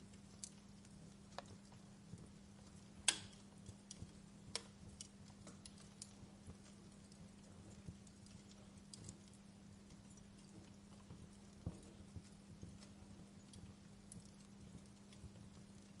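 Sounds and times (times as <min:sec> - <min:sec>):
faint low hum: 0:00.0 - 0:16.0
wood fire crackling: 0:00.0 - 0:16.0.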